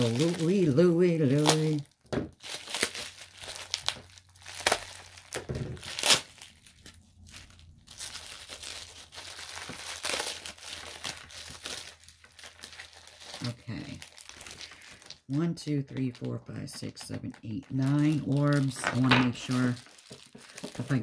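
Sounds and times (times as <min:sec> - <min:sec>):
plastic wrapping crinkling and tearing: 0:00.0 - 0:21.0.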